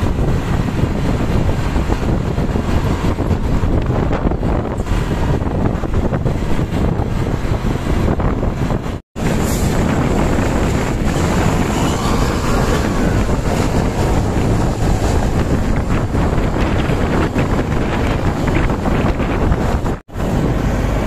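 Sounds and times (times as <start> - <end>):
low rumble of road vehicles: 0.0 - 21.0
wind buffeting microphone: 0.0 - 21.0.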